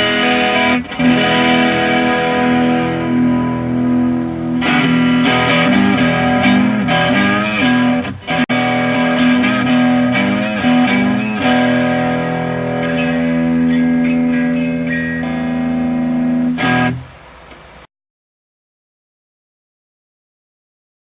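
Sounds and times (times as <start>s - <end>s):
electric guitar through an amp: 0.0s - 17.8s.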